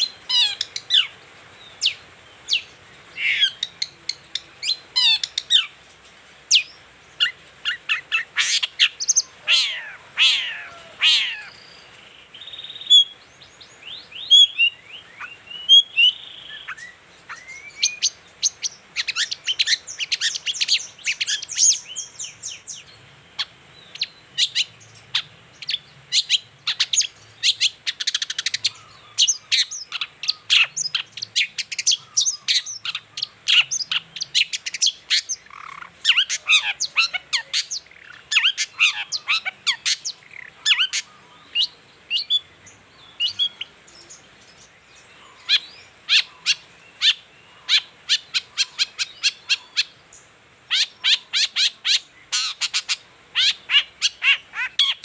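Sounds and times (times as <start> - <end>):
bird singing sharp high chirps: 6.5 - 55.0.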